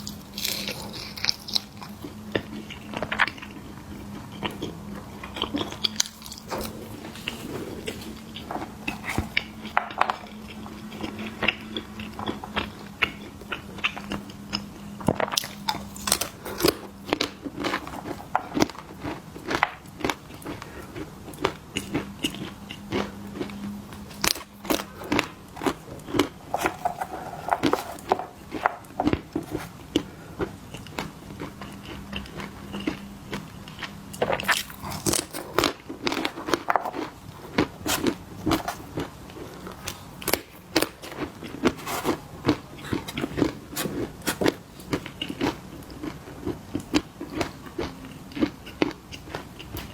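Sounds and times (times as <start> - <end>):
person chewing crunchy snacks: 0.0 - 49.9.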